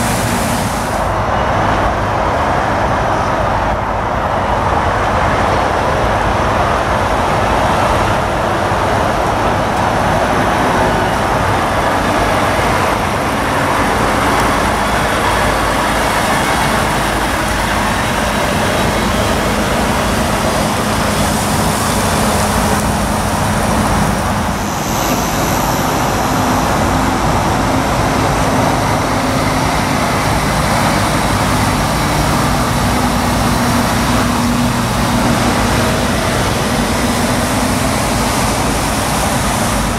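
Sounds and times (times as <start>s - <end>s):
lorry diesel engines running: 0.0s - 39.9s
steady traffic roar: 0.0s - 39.9s.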